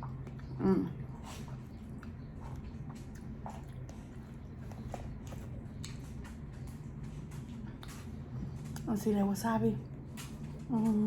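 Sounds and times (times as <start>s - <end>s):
person chewing: 0.0s - 8.9s.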